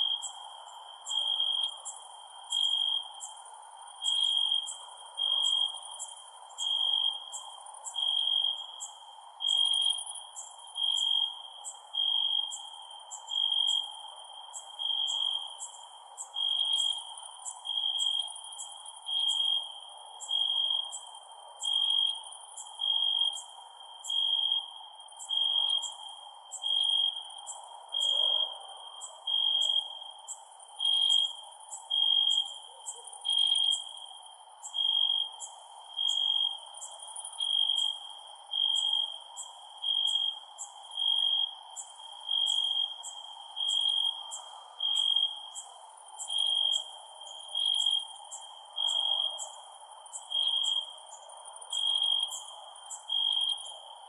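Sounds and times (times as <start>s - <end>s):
cricket chirping: 0.0s - 54.0s
insects ticking: 0.0s - 54.0s
steady insect drone: 0.0s - 54.0s.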